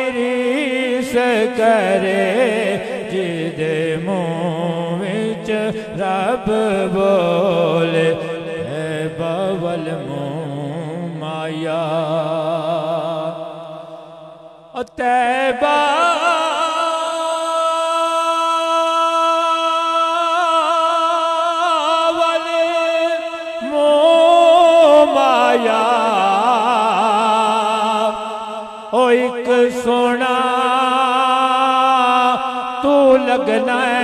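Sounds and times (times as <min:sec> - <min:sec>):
man singing: 0:00.0 - 0:34.0.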